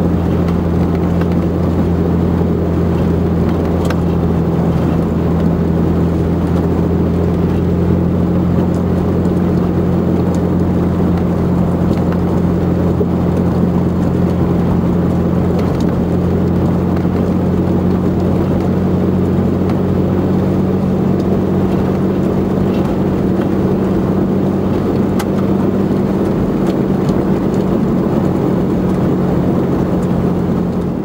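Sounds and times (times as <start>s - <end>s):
low engine drone: 0.0s - 31.0s
tyre and road noise: 0.0s - 31.0s.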